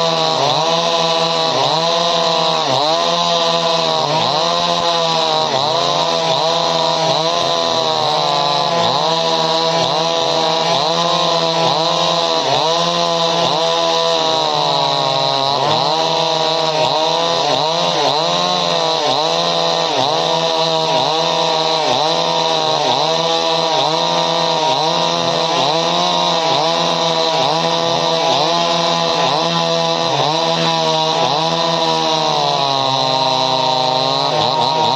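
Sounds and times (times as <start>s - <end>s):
chainsaw running at high revs: 0.0s - 34.9s.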